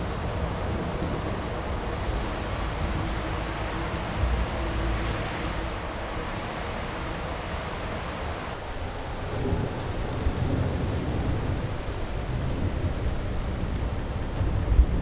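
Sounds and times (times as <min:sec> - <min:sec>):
thunder rumbling: 0:00.0 - 0:07.8, 0:08.7 - 0:15.0
steady rain: 0:00.0 - 0:15.0.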